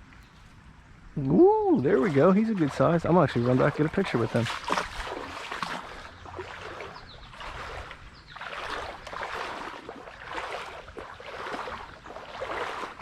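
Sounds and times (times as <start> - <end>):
stream flowing: 0.0 - 13.0
footsteps splashing through water: 1.7 - 13.0.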